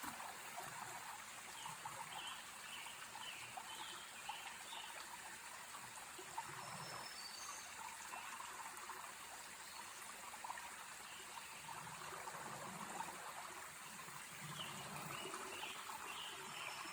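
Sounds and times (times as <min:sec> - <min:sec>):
stream trickling hiss: 0:00.0 - 0:16.9.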